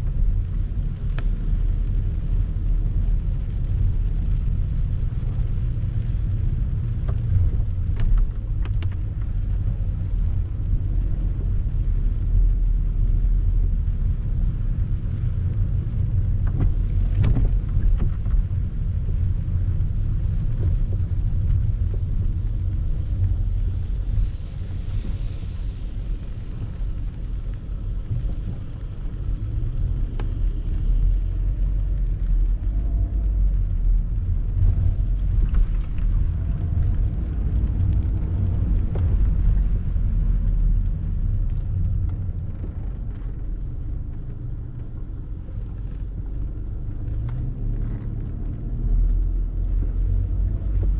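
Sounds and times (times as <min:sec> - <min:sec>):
steady low street rumble: 0:00.0 - 0:50.9.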